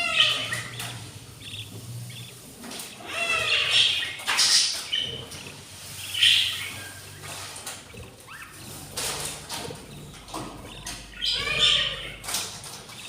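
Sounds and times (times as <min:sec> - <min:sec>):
budgies chirping: 0:00.0 - 0:13.0
light clicks and scratching: 0:00.0 - 0:13.0.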